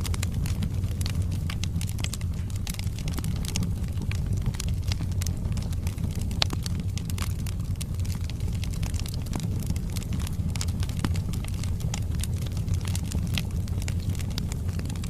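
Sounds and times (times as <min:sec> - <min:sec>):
burning logs crackling: 0:00.0 - 0:15.0
low rumble of flames: 0:00.0 - 0:15.0.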